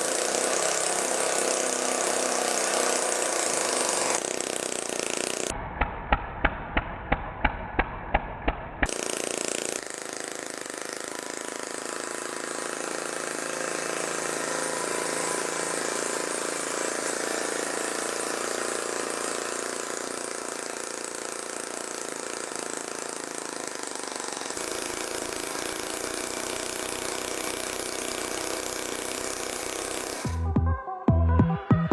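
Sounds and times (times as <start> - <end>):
small engine running: 0.0 - 5.6, 8.8 - 30.6.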